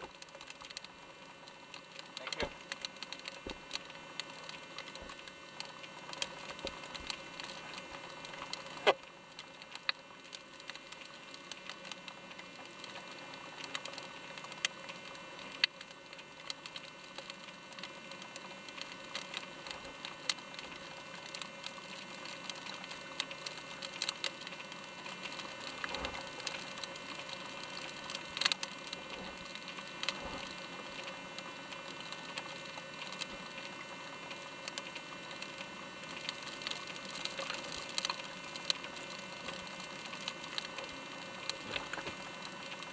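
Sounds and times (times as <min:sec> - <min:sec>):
light clicks and ticks: 0:00.0 - 0:42.9
steady mechanical hum: 0:00.0 - 0:42.9.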